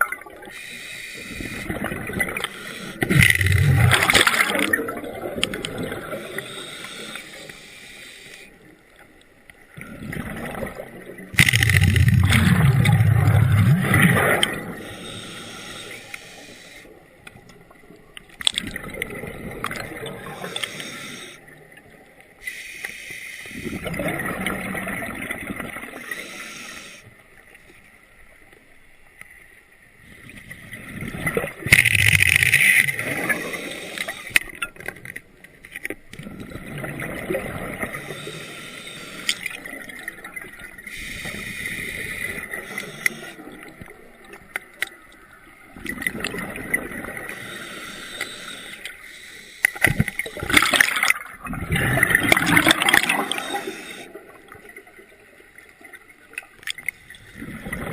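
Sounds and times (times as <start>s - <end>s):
underwater air bubbling and hissing: 0.0s - 57.9s.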